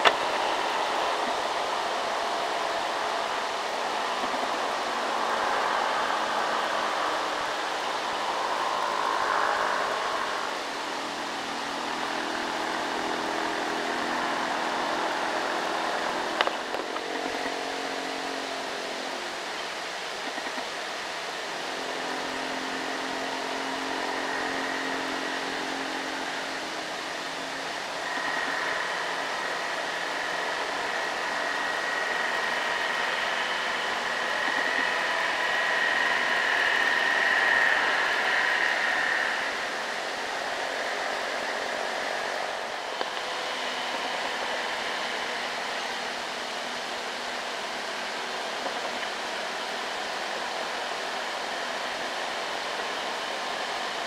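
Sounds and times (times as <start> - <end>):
diesel truck engines: 0.0 - 54.0
high steady whine: 0.0 - 54.0.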